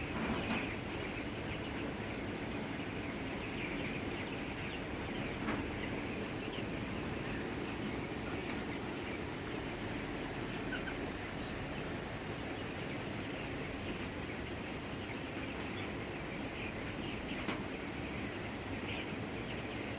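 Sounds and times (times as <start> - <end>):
chicken calls: 0.0 - 19.9
steady background noise: 0.0 - 19.9.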